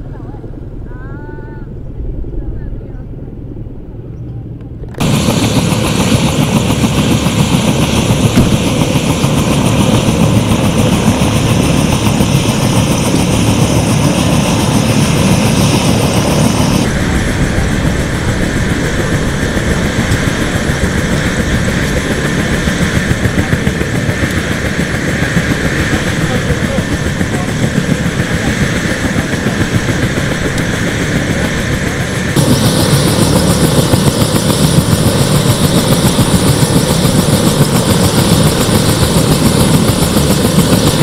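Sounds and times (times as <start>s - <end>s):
helicopter rotor chop: 4.9s - 41.0s.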